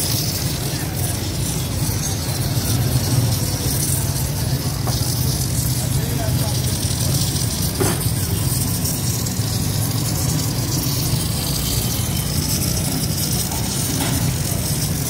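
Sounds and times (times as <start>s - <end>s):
hiss: 0.0s - 15.0s.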